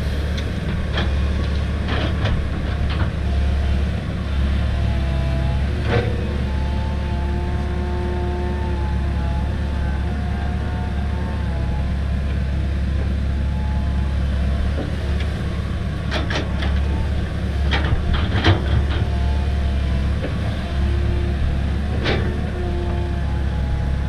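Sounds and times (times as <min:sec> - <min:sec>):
excavator diesel engine running: 0:00.0 - 0:24.0
hydraulic whine: 0:02.3 - 0:24.0.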